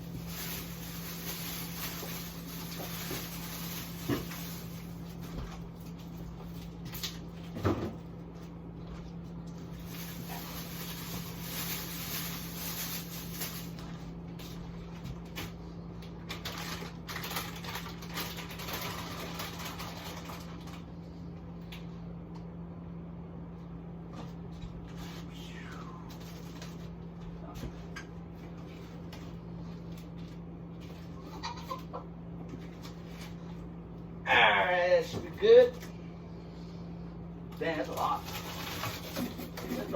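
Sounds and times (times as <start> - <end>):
freezer low hum: 0.0 - 39.9.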